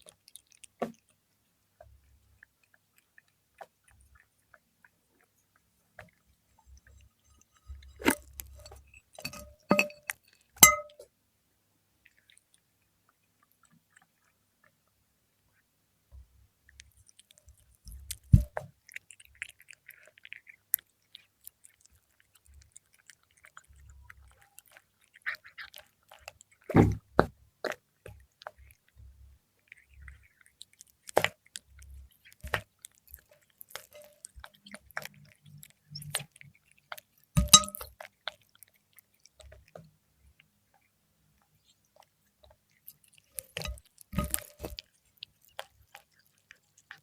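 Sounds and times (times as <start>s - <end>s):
cat chewing fish: 0.0s - 47.0s.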